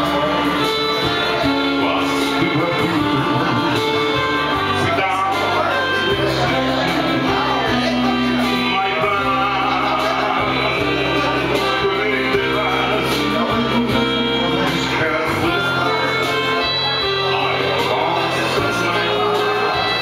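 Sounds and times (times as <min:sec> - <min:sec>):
electronic keyboard: 0:00.0 - 0:20.0
man singing into microphone: 0:00.0 - 0:20.0.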